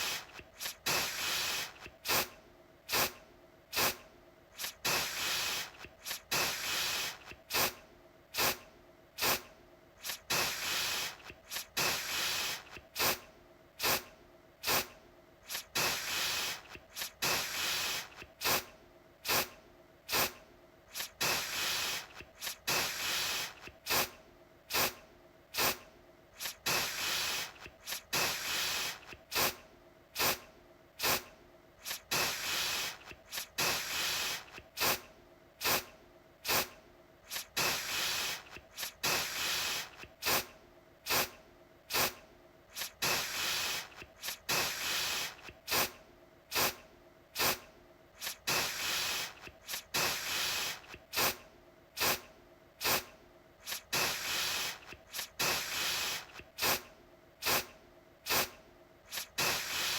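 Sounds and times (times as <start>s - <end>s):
aerosol spray hiss: 0.0s - 2.3s, 2.9s - 7.8s, 8.4s - 8.6s, 9.2s - 13.2s, 13.8s - 25.0s, 25.6s - 25.8s, 26.4s - 29.6s, 30.2s - 30.4s, 31.0s - 40.5s, 41.1s - 46.8s, 47.4s - 47.6s, 48.2s - 51.4s, 52.0s - 57.7s, 58.3s - 59.9s.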